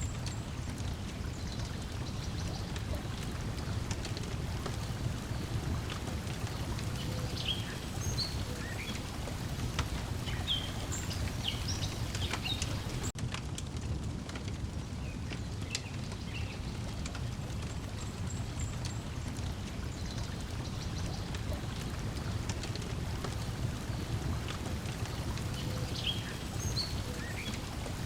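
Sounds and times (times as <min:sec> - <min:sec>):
small birds chirping: 0:00.0 - 0:13.1, 0:17.9 - 0:28.0
water lapping at shore: 0:00.0 - 0:13.2, 0:15.4 - 0:28.0
wood fire crackling: 0:00.0 - 0:28.0.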